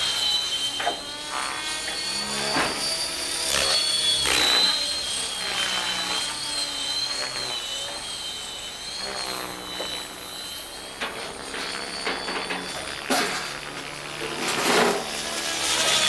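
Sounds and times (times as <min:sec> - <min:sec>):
model helicopter motor whine: 0:00.0 - 0:16.0
rotor blade noise: 0:00.0 - 0:16.0.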